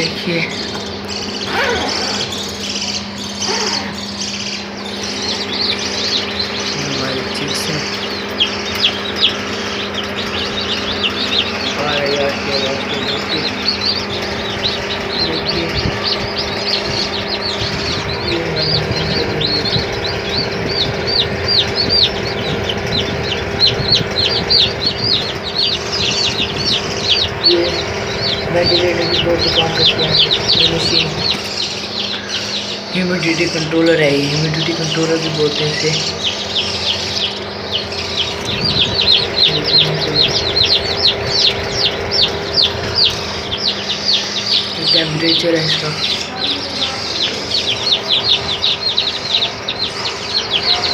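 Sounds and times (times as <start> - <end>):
chicks peeping: 0.0 - 50.9
low hum: 0.0 - 50.9.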